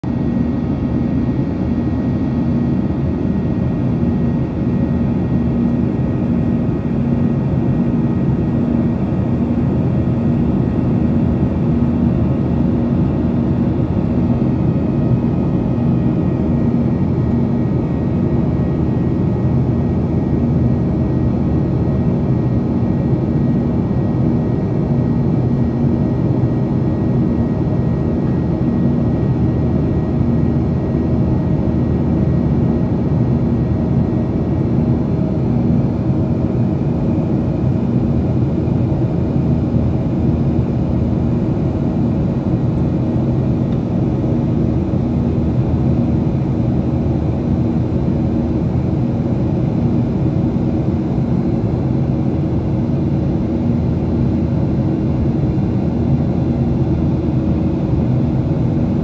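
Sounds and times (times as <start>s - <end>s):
jet engine cabin drone: 0.0s - 59.0s
steady low hum: 0.1s - 59.0s.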